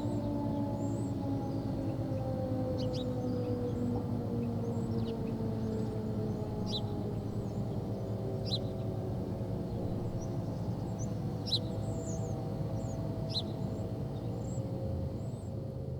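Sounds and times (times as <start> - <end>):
low rumble of town ambience: 0.0 - 15.9.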